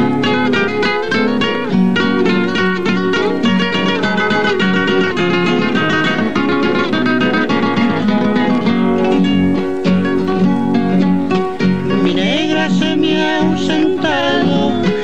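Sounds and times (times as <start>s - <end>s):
acoustic guitars plucking: 0.0s - 15.0s.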